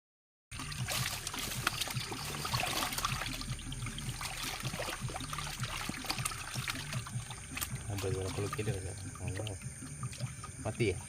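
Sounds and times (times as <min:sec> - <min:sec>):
water splashing and trickling: 0:00.5 - 0:11.0.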